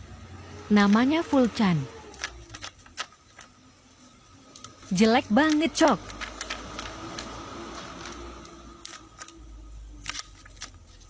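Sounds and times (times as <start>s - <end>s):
paper rustling: 0.8s - 9.4s, 10.0s - 11.0s.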